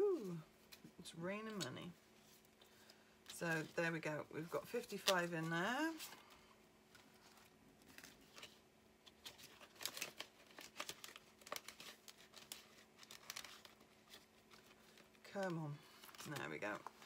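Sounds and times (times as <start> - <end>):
plastic pages crinkling: 2.2 - 17.0.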